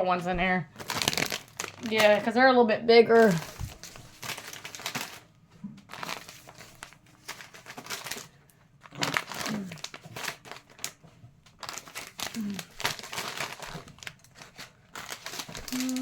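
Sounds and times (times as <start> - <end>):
packets crinkling and rustling: 0.7 - 2.4, 3.1 - 16.0.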